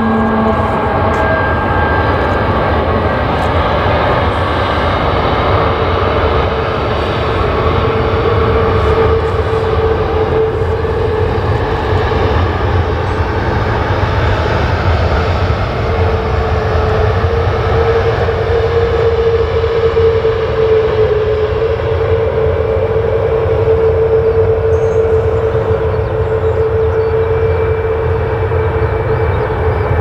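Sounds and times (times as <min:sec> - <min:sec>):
jet engines droning: 0:00.0 - 0:30.0.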